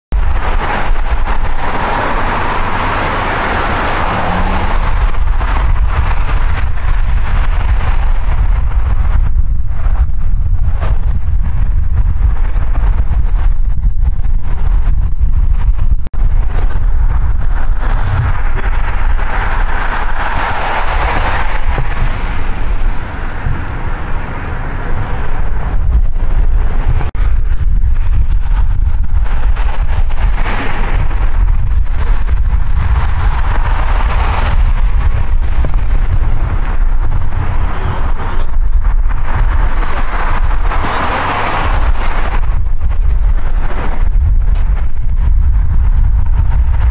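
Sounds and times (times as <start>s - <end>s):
rushing sound: 0.1s - 46.9s
strong wind buffeting microphone: 0.1s - 46.9s.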